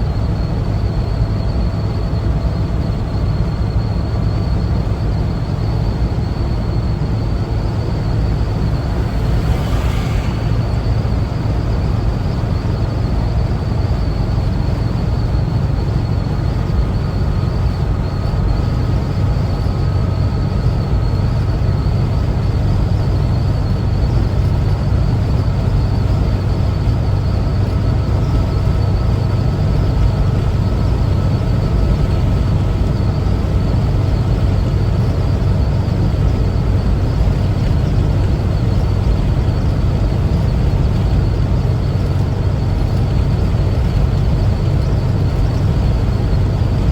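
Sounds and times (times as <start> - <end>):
faint steady whine: 0.0 - 46.9
road noise: 0.0 - 46.9
van engine running: 0.0 - 46.9.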